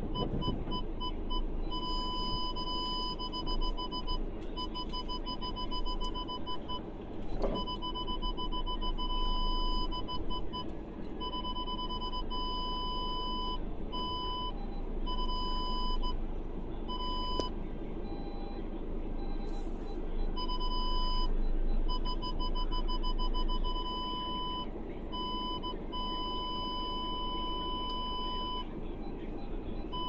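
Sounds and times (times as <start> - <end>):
parking-sensor beeps: 0.1 - 30.0.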